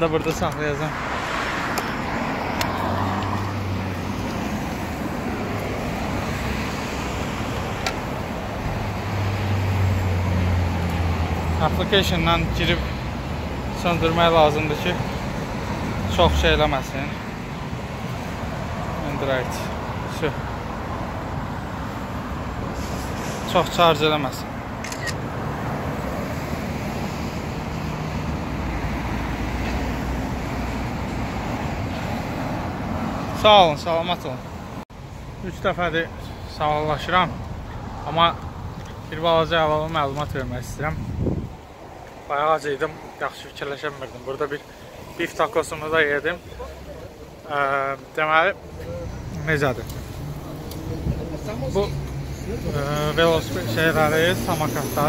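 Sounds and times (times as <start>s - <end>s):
cars driving past: 0.0s - 55.0s
street traffic noise: 0.0s - 55.0s.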